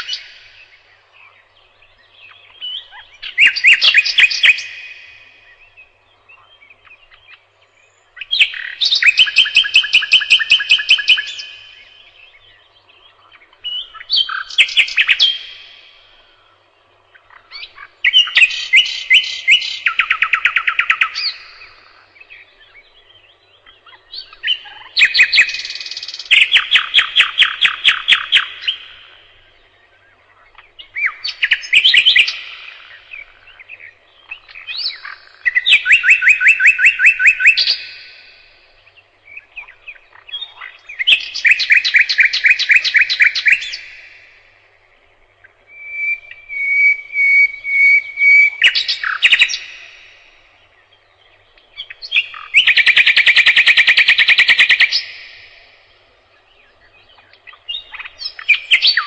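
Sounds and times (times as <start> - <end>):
pure whistled bird notes: 0.0 - 44.3, 45.2 - 59.0
nightingale singing trills: 0.0 - 59.0.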